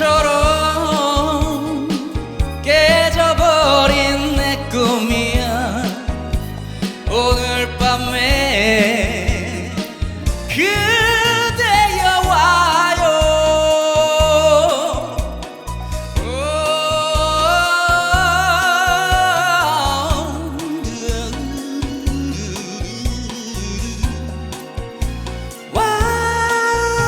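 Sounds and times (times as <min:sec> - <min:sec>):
band accompaniment: 0:00.0 - 0:27.0.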